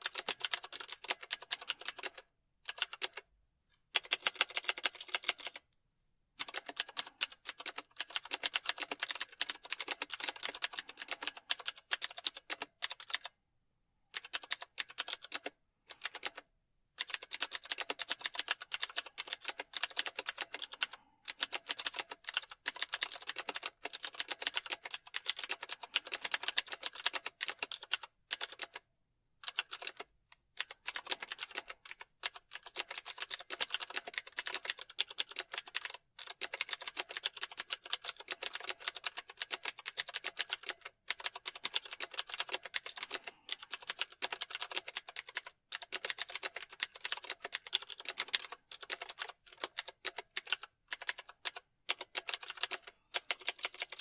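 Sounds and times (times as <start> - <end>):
computer keyboard typing: 0.0 - 3.3, 3.9 - 5.7, 6.4 - 13.4, 14.1 - 54.0.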